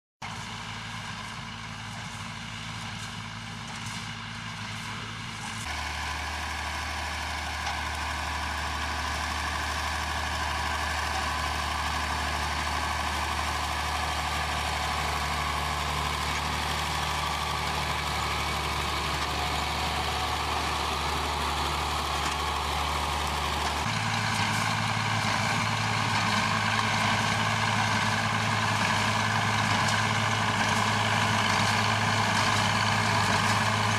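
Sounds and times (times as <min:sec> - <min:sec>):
lorry diesel engine running: 0:00.2 - 0:33.9
tractor engine pulling wagon: 0:00.2 - 0:33.9.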